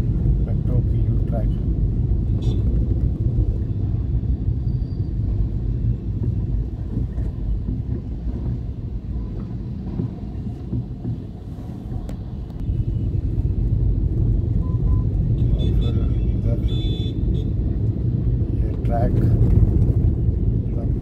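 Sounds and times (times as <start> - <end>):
vehicle rumble in city traffic: 0.0 - 21.0.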